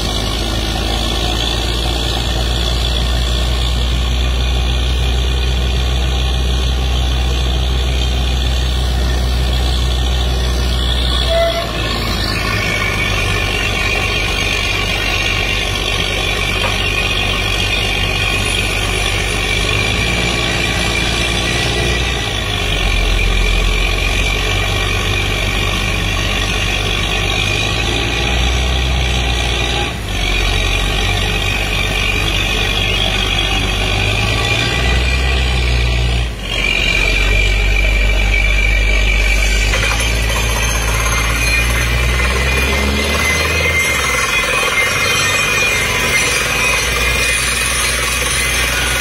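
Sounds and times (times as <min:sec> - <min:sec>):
diesel engine running: 0:00.0 - 0:49.0
high whine: 0:00.0 - 0:49.0.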